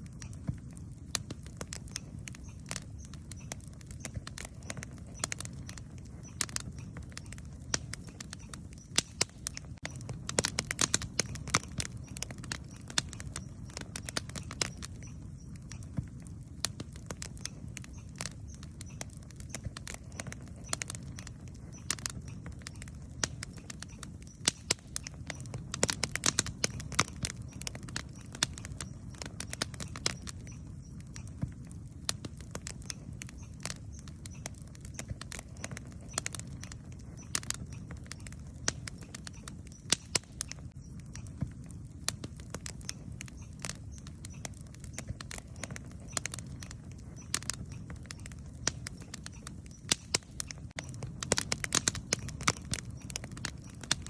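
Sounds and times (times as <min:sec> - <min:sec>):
campfire crackles and pops: 0:00.0 - 0:54.0
low rumble of flames: 0:00.0 - 0:54.0.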